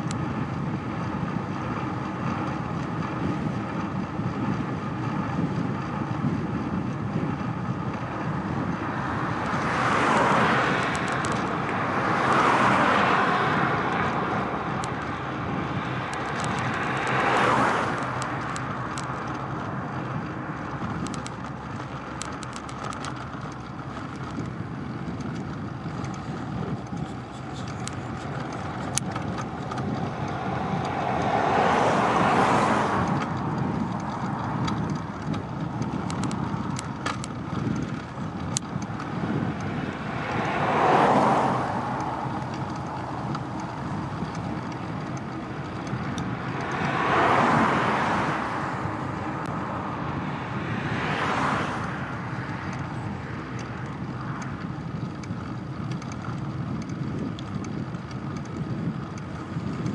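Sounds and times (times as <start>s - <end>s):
cars passing: 0.0s - 59.9s
road noise rush: 0.0s - 59.9s.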